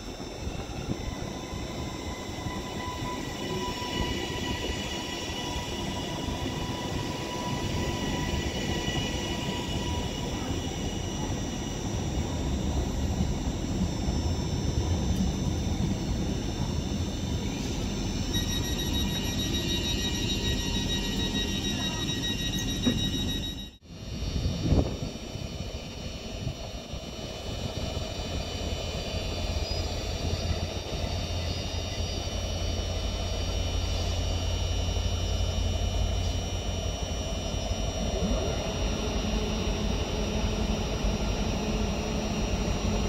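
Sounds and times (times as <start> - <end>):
electric train whining tones: 0.0 - 43.0
wheels rumbling on rail: 0.0 - 43.0.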